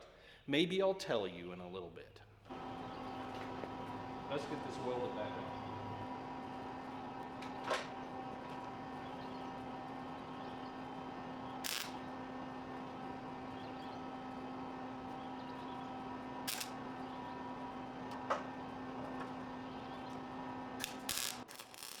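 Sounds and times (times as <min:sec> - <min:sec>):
steady low hum: 0:02.5 - 0:22.0
welding bursts: 0:02.5 - 0:22.0.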